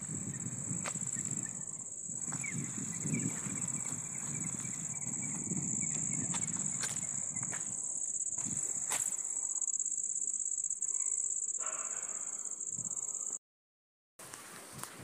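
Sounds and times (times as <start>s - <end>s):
crickets trilling: 0.0s - 13.4s.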